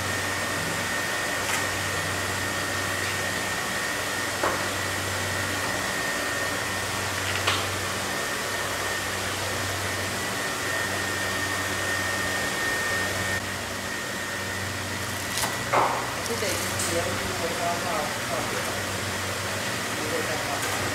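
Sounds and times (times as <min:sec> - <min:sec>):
electric fan humming: 0:00.0 - 0:20.9.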